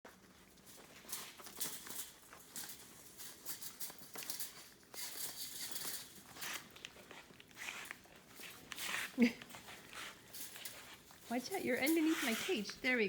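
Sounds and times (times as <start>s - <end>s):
animals scrabbling and rustling: 0.1s - 13.0s.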